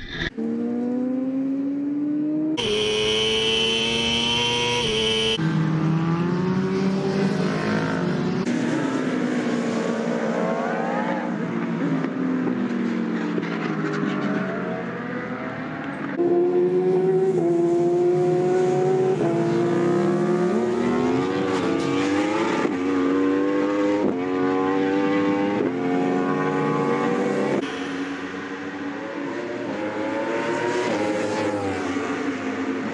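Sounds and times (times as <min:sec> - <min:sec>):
motorcycle engines revving: 0:00.3 - 0:32.9.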